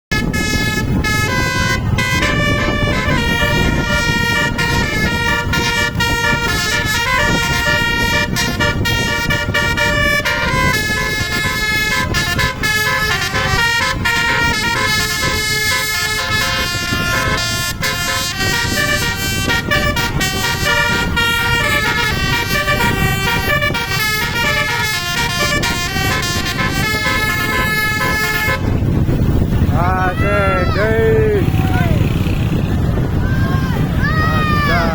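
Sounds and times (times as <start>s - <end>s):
multi-tone air horn melody: 0.1s - 29.5s
low rumble: 0.1s - 34.8s.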